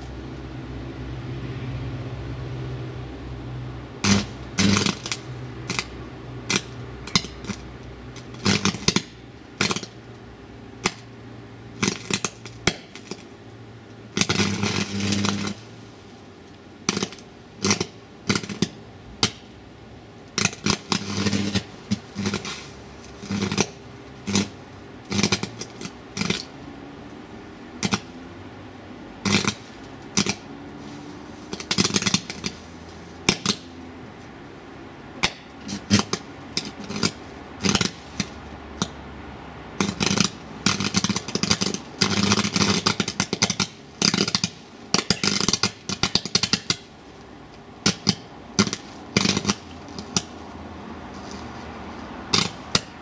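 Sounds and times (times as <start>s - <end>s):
electric arc crackling and sputtering: 3.8s - 53.0s.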